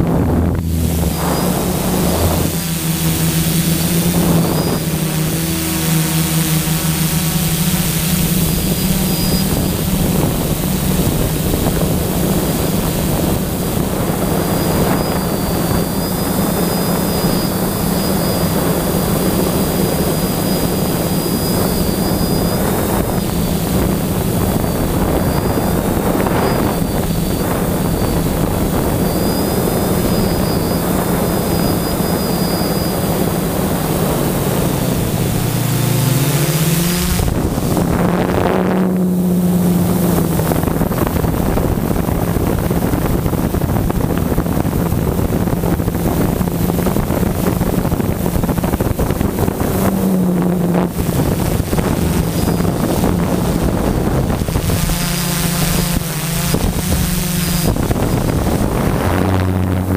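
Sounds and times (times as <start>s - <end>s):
drone motors humming: 0.0s - 59.9s
wind noise on microphone: 0.0s - 59.9s.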